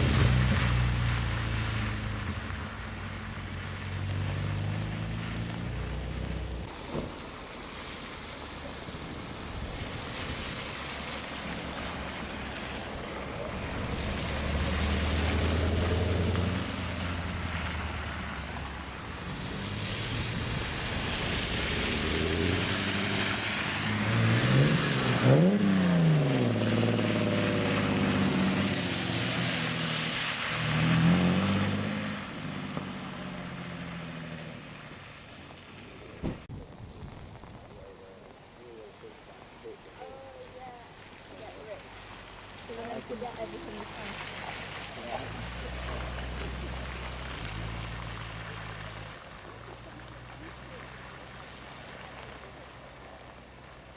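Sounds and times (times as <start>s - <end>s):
cars driving past: 0.0s - 36.5s, 38.7s - 53.9s
tyres splashing through puddles: 0.0s - 53.9s.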